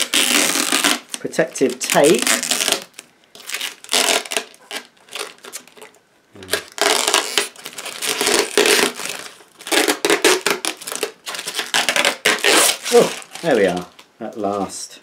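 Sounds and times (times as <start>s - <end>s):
plastic film crinkling: 0.0s - 14.8s.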